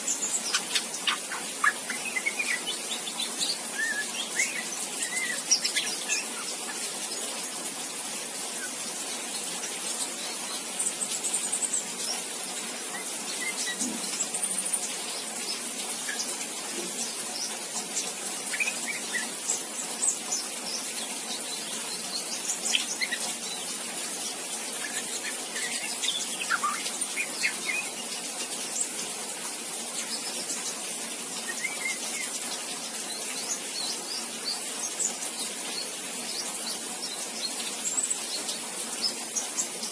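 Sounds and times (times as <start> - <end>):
bird chirps and twitters: 0.0 - 29.0, 30.0 - 39.9
steady hiss: 0.0 - 39.9.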